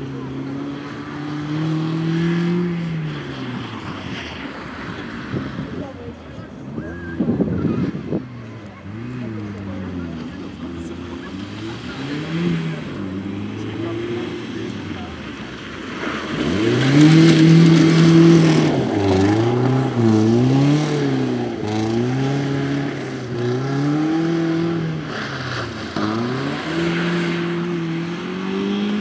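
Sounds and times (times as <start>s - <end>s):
rally car engine revving hard: 0.0s - 5.8s, 7.5s - 29.0s.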